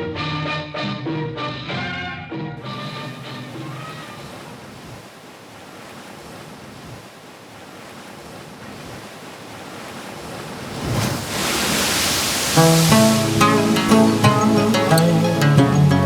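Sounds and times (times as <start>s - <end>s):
sea waves washing in: 2.6s - 16.0s.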